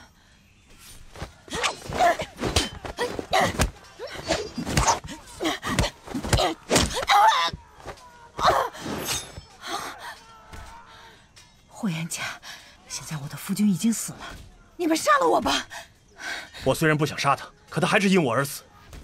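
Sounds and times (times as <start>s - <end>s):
women's fighting cries and grunts: 0.0s - 19.0s.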